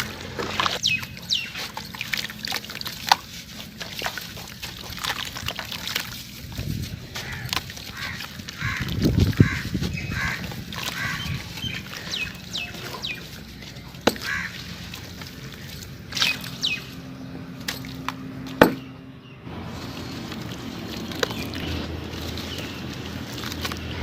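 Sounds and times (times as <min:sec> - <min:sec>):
birds chirping: 0:00.0 - 0:02.2, 0:06.9 - 0:24.0
cement chunks crunching and cracking: 0:01.5 - 0:16.6, 0:19.7 - 0:24.0.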